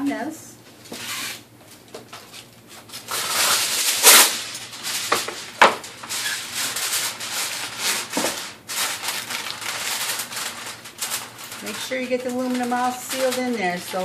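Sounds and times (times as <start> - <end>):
aluminum foil crinkling: 2.0 - 14.0.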